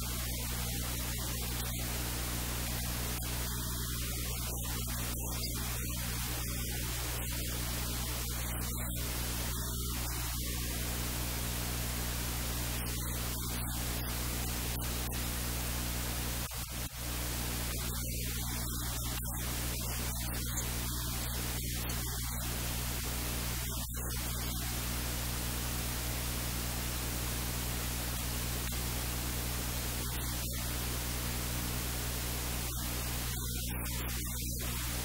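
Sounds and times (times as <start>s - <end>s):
low mains hum: 0.0s - 35.0s
static hiss: 0.0s - 35.0s.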